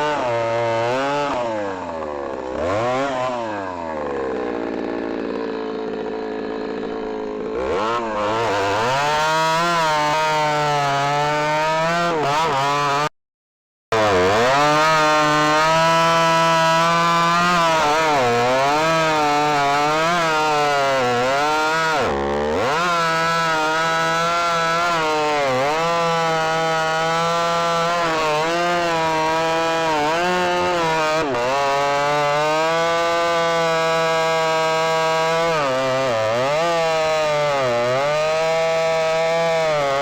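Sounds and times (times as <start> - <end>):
chainsaw sawing wood: 0.0 - 13.1, 13.9 - 40.0.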